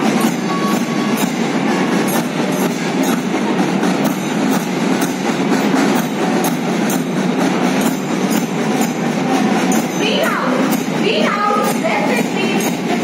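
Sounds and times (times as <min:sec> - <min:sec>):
dense steady din: 0:00.0 - 0:13.0
marching drums beating: 0:00.0 - 0:13.0.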